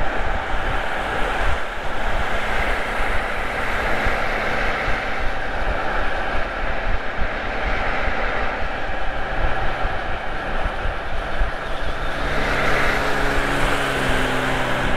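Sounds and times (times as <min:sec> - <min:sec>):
car interior highway cruising noise: 0:00.0 - 0:14.9.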